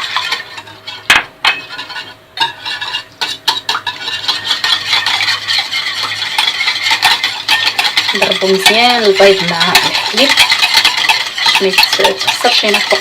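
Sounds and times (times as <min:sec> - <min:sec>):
utensil beating egg in bowl: 0:00.0 - 0:13.0.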